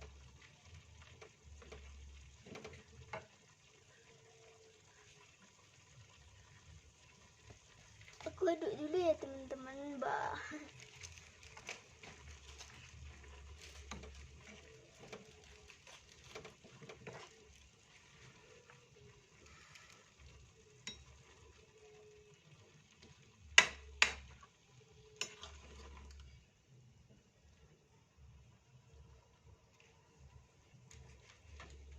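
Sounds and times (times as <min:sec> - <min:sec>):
spatula stirring in a pan: 0:00.0 - 0:31.9.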